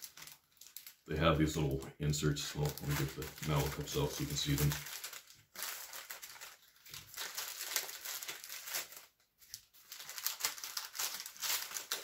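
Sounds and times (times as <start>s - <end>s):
paper candy wrapper crinkling: 0.0s - 12.0s.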